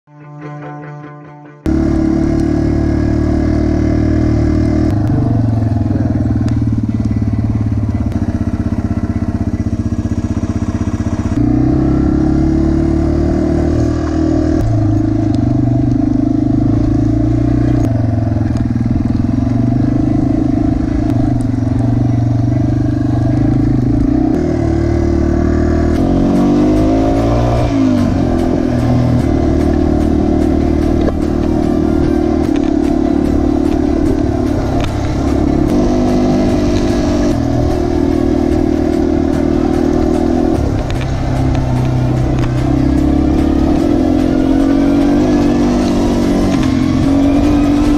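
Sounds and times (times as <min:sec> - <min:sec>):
motorcycle engine running: 0:01.6 - 0:47.9.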